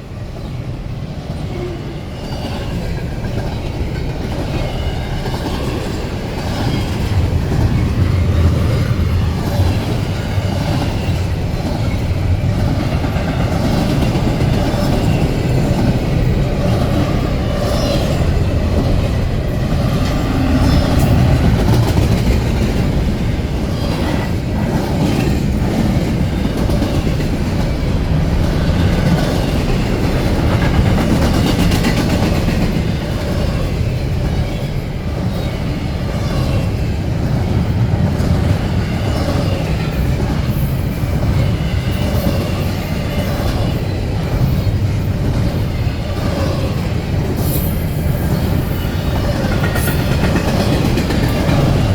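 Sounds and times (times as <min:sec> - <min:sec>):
freight train rumbling past: 0:00.0 - 0:51.9
wheels clacking over rail joints: 0:01.5 - 0:51.9.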